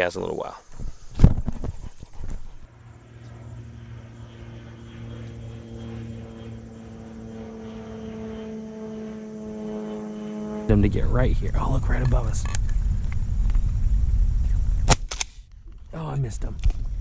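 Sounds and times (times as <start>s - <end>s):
propeller aircraft engine drone: 0.6s - 14.9s.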